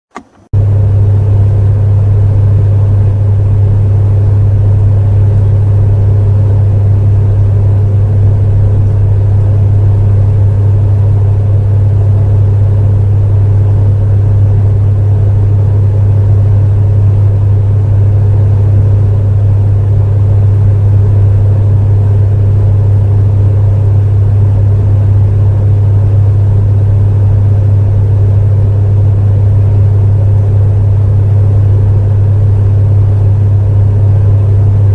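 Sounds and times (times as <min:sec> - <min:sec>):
space heater humming: 0:00.1 - 0:34.9
fan hiss: 0:00.2 - 0:34.9.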